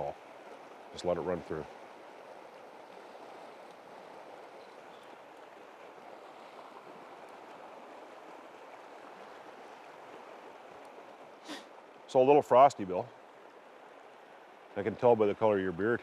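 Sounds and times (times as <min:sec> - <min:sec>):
river water rushing over riffle: 0:00.0 - 0:16.0.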